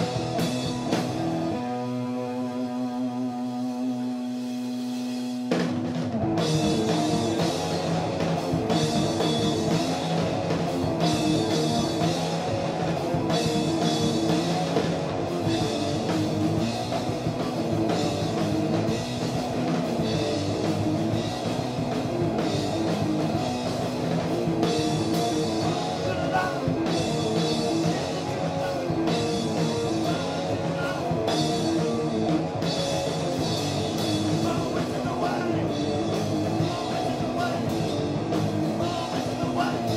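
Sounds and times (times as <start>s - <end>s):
heavy rock music: 0.0s - 39.9s.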